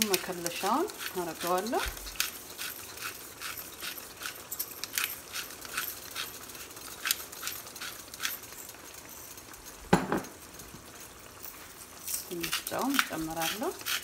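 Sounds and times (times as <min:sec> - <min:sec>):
sauce sizzling in frying pan: 0:00.0 - 0:14.0.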